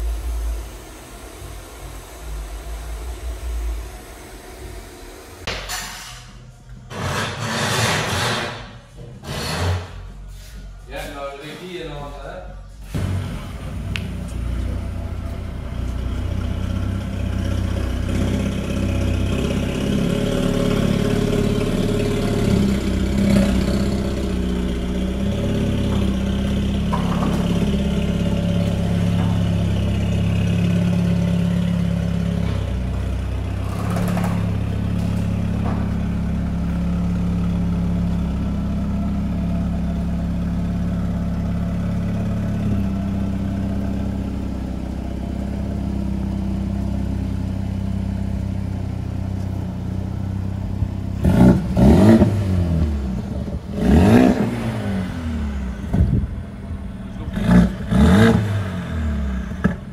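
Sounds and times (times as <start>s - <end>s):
car engine idling: 0.0s - 5.7s, 10.0s - 59.9s.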